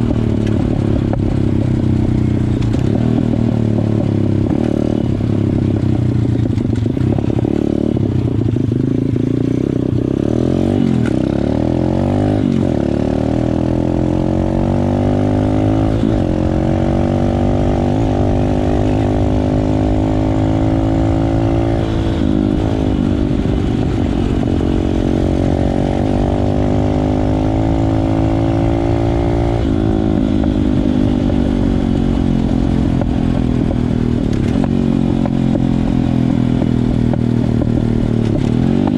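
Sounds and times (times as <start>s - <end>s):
pit bike engine at full throttle: 0.0s - 38.9s.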